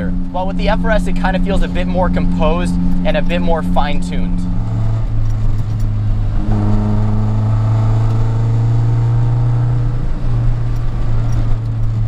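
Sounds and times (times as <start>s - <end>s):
car engine through loud exhaust: 0.0s - 12.0s.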